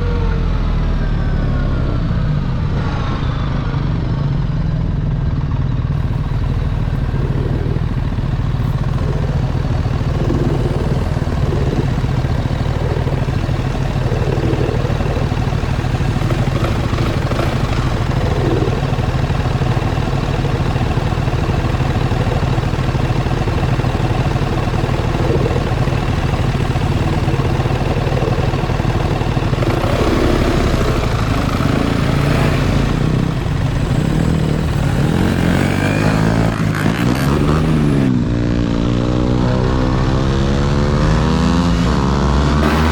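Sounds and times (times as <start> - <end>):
motorcycle engine idling: 4.0 - 38.2, 42.6 - 42.9.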